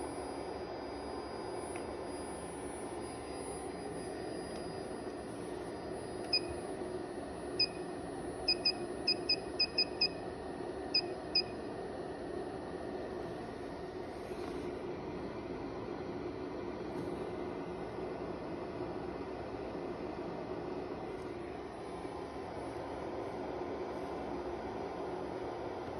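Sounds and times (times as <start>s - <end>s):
steady background hum: 0.0s - 25.9s.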